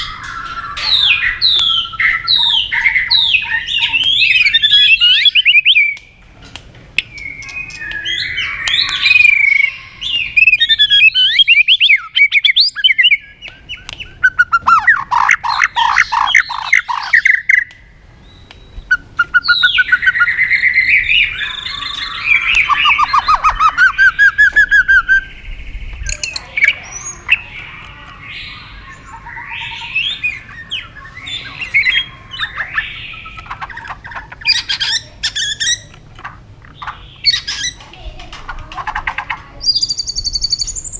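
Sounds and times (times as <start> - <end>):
bird singing whistles and trills: 0.0 - 6.0, 7.0 - 35.9, 39.6 - 40.9.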